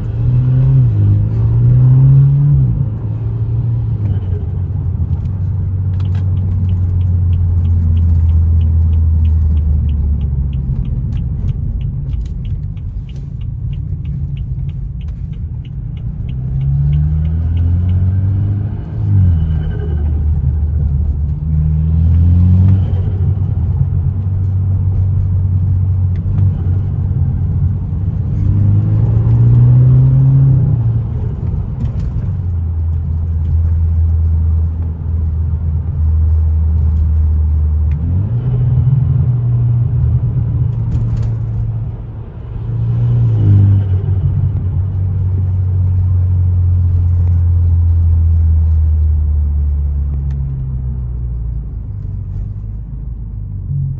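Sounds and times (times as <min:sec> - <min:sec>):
car engine droning: 0:00.0 - 0:53.9.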